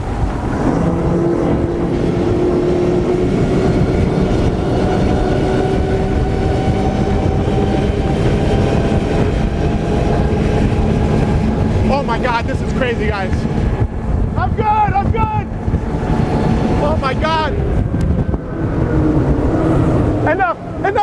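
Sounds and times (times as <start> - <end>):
outboard engines droning: 0.0 - 21.0.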